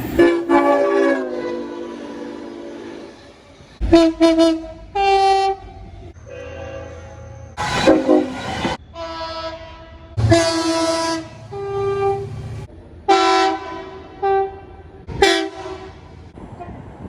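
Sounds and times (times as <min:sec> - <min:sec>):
locomotive air horn blasts: 0:00.0 - 0:12.4, 0:13.1 - 0:16.8.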